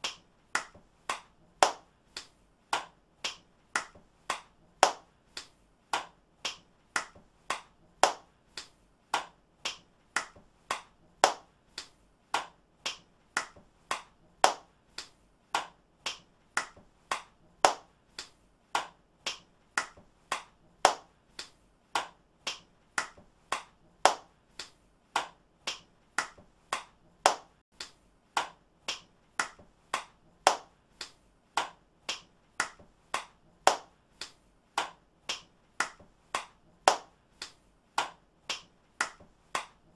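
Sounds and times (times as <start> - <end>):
hand claps: 0.0 - 39.9.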